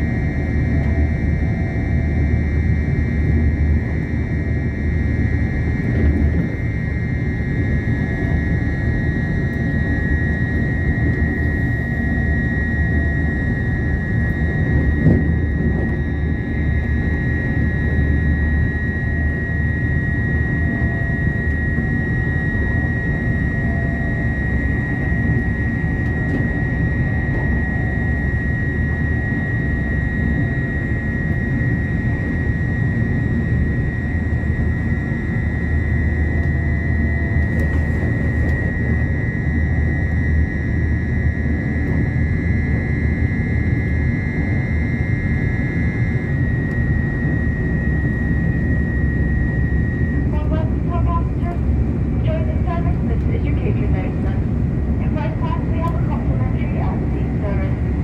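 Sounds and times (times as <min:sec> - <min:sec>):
constant high whine: 0:00.0 - 0:58.0.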